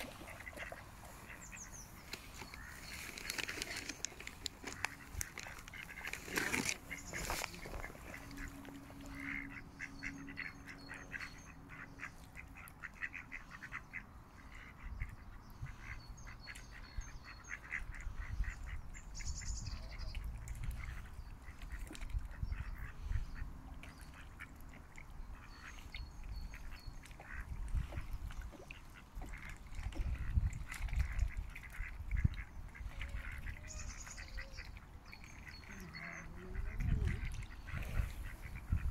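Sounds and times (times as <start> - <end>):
ducks quacking: 0.0 - 18.8, 19.8 - 38.9.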